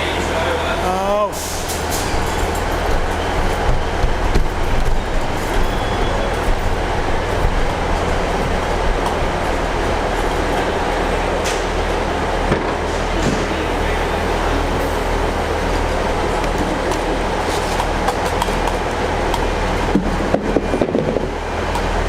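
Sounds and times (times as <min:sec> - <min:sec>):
diesel train engine rumble: 0:00.0 - 0:22.0
rail noise: 0:00.0 - 0:22.0.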